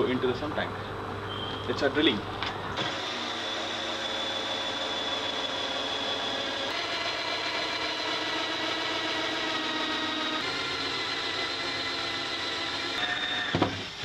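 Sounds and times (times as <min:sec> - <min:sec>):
cordless drill drilling plastic: 0:02.8 - 0:14.0.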